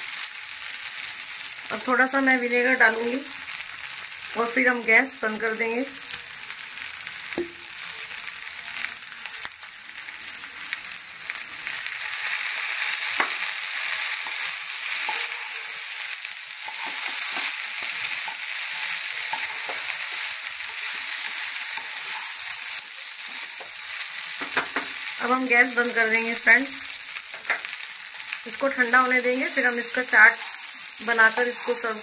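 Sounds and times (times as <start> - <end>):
food sizzling in pan: 0.0 - 32.0.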